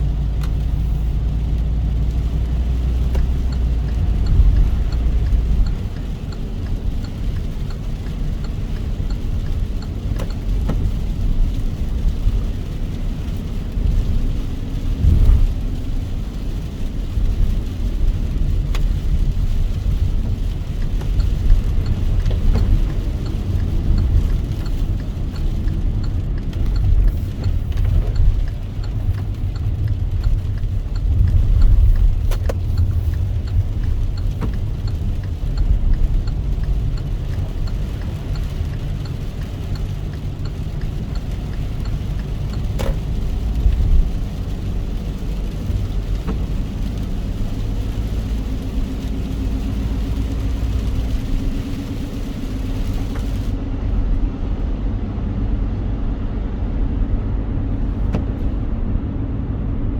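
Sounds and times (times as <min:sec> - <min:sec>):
raindrops ticking on car: 0:00.0 - 0:59.1
car road and engine rumble: 0:00.0 - 0:59.9.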